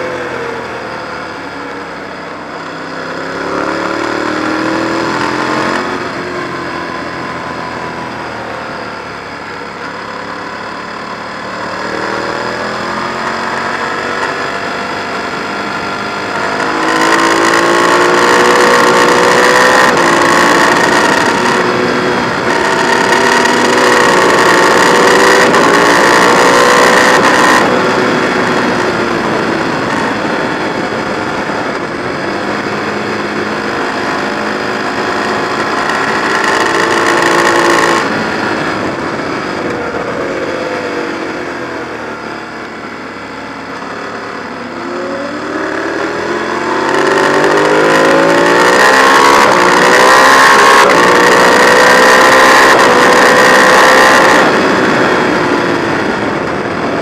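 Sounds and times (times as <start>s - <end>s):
motorcycle engine at high speed: 0.0s - 57.0s.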